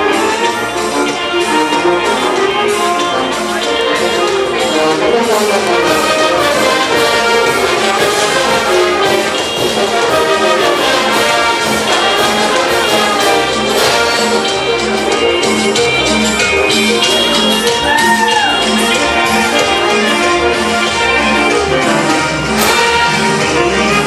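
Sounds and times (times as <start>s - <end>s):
steady drum beat: 0.0s - 24.0s
trombones: 0.0s - 24.0s
trumpets: 0.0s - 24.0s.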